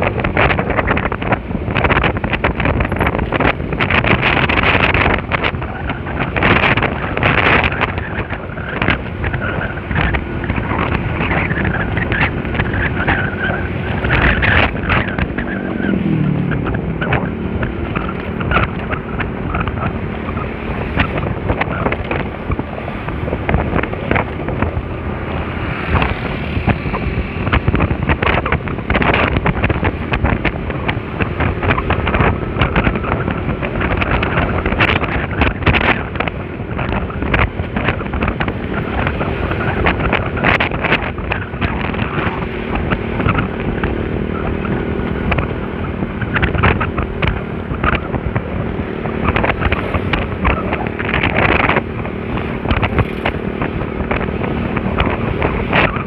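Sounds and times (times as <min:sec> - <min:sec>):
road noise: 0:00.0 - 0:56.0
wind buffeting microphone: 0:00.0 - 0:56.0
scooter engine running: 0:00.1 - 0:56.0.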